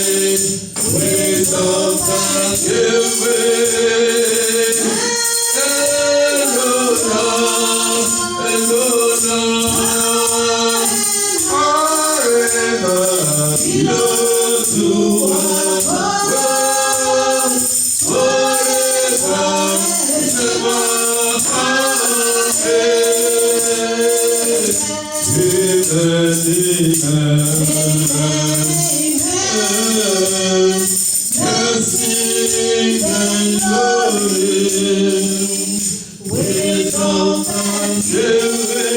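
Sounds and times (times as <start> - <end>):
choir singing gospel: 0.0 - 38.9
tambourine beat: 0.0 - 38.9.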